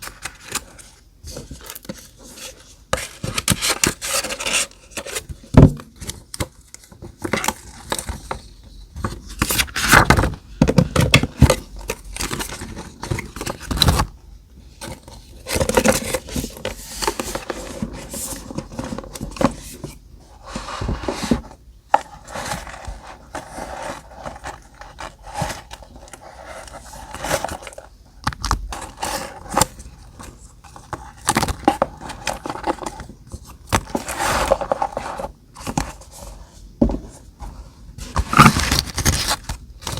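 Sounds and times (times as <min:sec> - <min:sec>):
paper rustling and scraping: 0:00.0 - 0:14.1, 0:14.8 - 0:27.9, 0:28.7 - 0:39.9.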